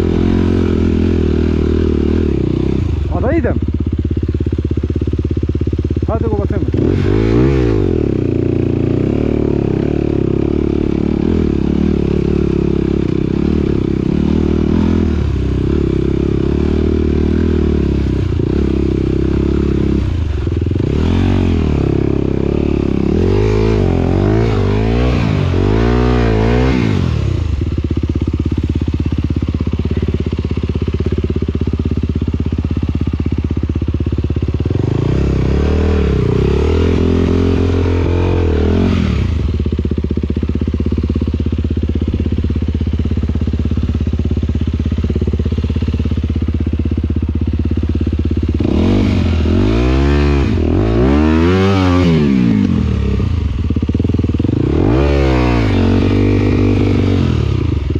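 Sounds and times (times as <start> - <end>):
motocross bike engine revving: 0.0 - 46.8, 47.6 - 57.9.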